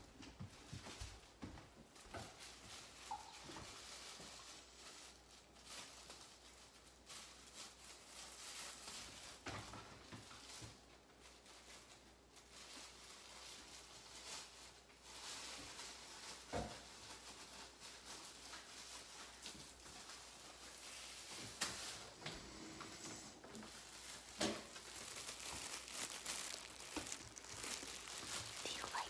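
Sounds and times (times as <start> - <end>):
plastic gloves crinkling: 0.0 - 29.0.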